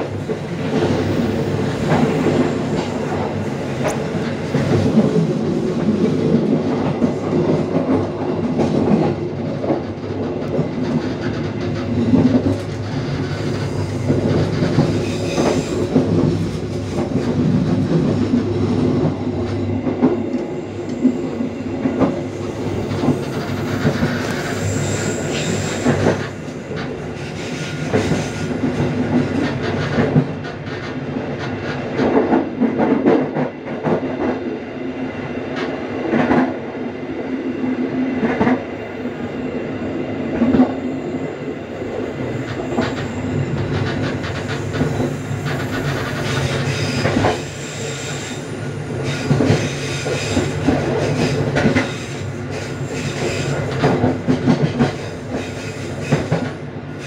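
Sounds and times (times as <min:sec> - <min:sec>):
train rolling: 0:00.0 - 0:57.0.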